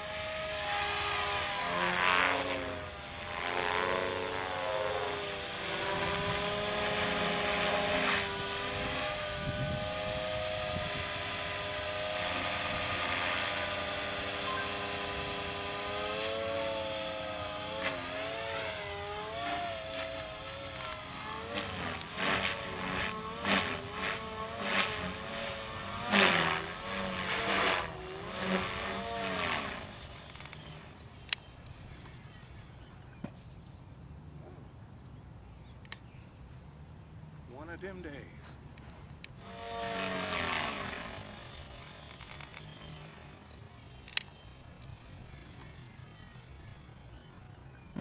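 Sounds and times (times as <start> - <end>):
rc helicopter motor whine: 0.0 - 33.2, 38.8 - 48.0.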